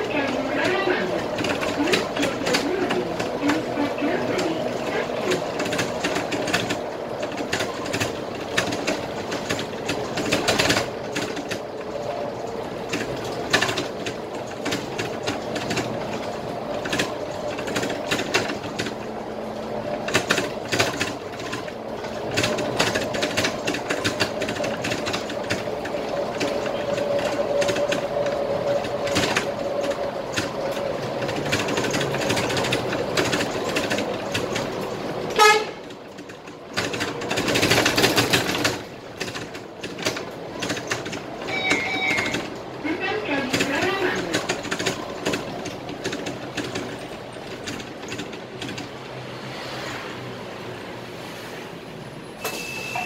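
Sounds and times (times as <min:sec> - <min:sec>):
bus engine and road noise: 0:00.0 - 0:53.0.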